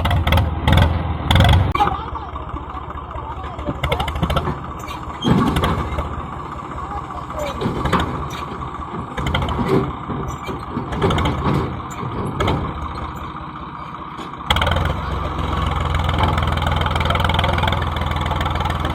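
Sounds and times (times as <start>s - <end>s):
tractor diesel engine: 0.0s - 18.9s.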